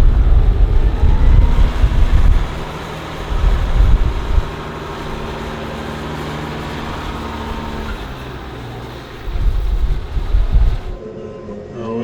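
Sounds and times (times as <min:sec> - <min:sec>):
telehandler diesel engine running: 0:00.0 - 0:11.0
wind gusts on microphone: 0:00.0 - 0:11.0.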